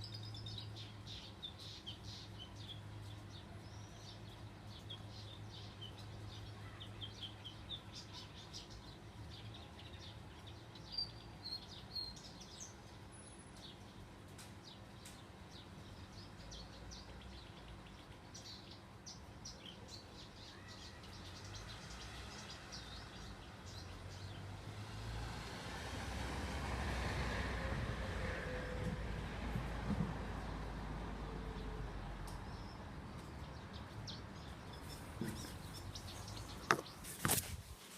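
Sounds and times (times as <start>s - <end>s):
small birds chirping: 0.0s - 24.9s, 31.4s - 37.9s.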